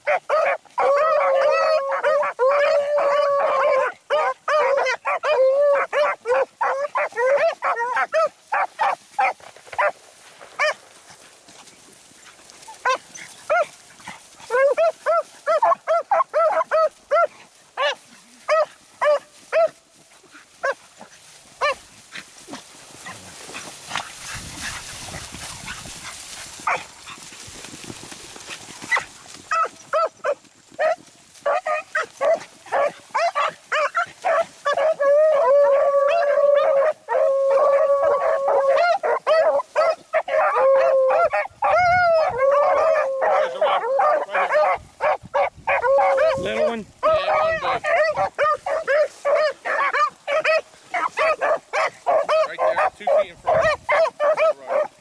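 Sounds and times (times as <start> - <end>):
beagles barking: 0.0 - 10.0, 10.6 - 10.8, 12.6 - 19.8, 20.6 - 21.9, 23.0 - 27.2, 28.8 - 55.0
hounds baying: 0.0 - 55.0.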